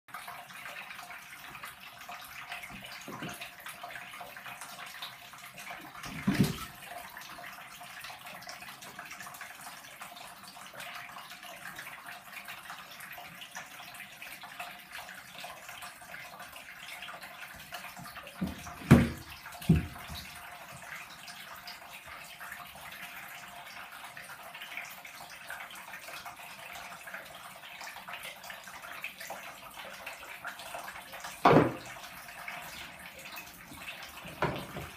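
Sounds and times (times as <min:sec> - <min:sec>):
water running into bathtub: 0:00.1 - 0:34.9.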